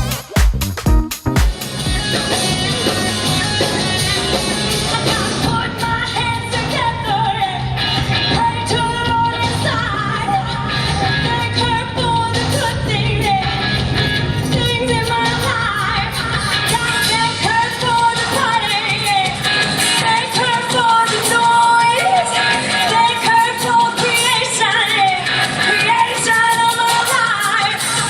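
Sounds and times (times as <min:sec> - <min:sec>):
pop song with singing: 0:00.0 - 0:28.0.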